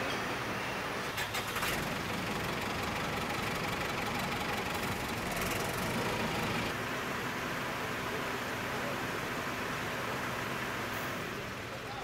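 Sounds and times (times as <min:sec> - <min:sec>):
truck engine idling: 0:01.1 - 0:12.0.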